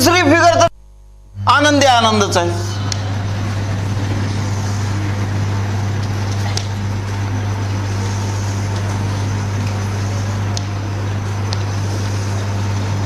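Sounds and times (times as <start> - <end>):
room noise hiss: 0.0 - 13.0
steady low hum: 0.0 - 13.0.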